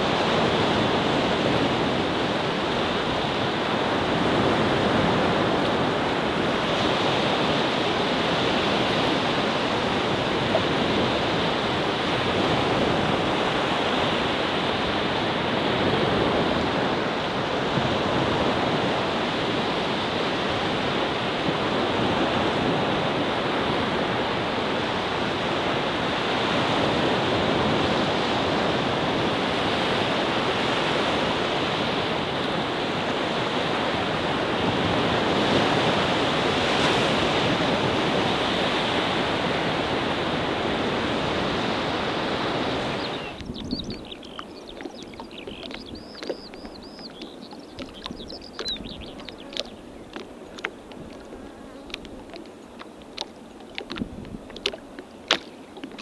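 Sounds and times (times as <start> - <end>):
small waves washing onto shore: 0.0 - 56.0.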